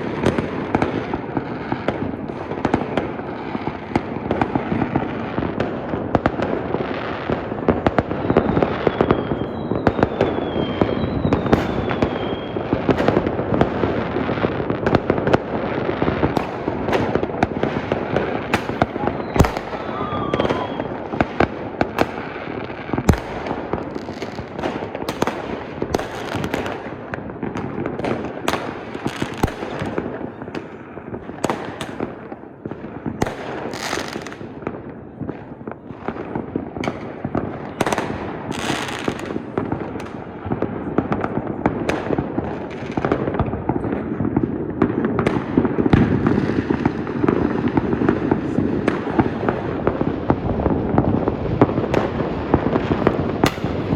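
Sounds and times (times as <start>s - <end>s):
firework bangs and crackling: 0.0s - 53.9s.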